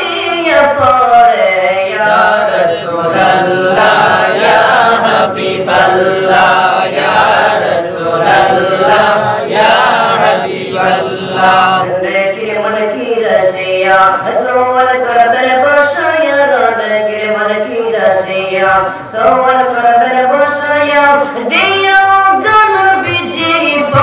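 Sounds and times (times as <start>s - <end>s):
male voices chanting devotional song: 0.0s - 24.0s.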